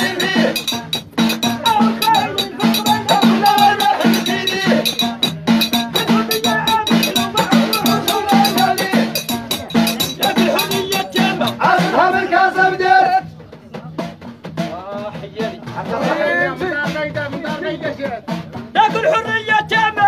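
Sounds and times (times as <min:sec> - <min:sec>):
men singing together: 0:00.0 - 0:13.3, 0:15.4 - 0:18.2
hand drums beating: 0:00.0 - 0:20.0.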